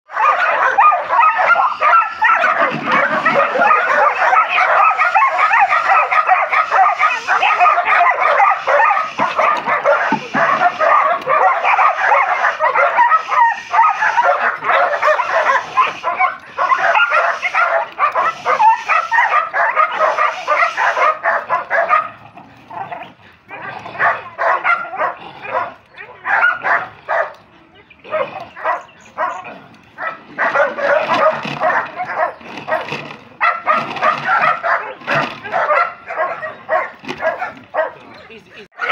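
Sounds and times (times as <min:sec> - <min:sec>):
dogs barking and yipping: 0:00.1 - 0:38.9.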